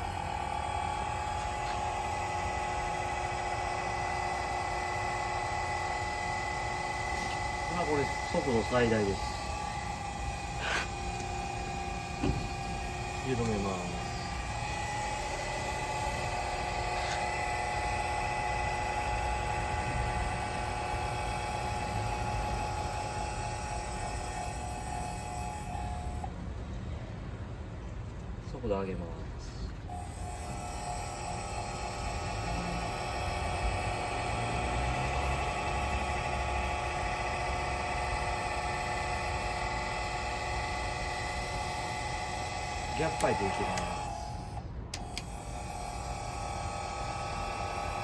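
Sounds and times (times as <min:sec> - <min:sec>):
motor and gear whir: 0:00.0 - 0:26.3, 0:29.8 - 0:48.0
welding turning roll humming: 0:00.0 - 0:26.3, 0:29.8 - 0:48.0.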